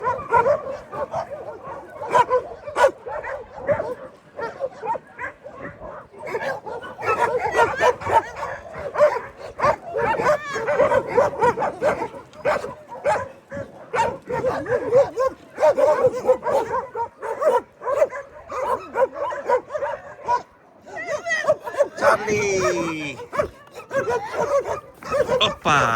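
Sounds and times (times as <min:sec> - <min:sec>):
many dogs barking: 0:00.0 - 0:25.9.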